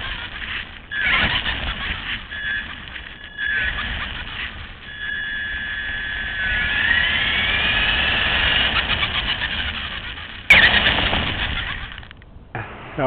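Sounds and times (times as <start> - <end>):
electric motor whining: 0.0 - 12.2.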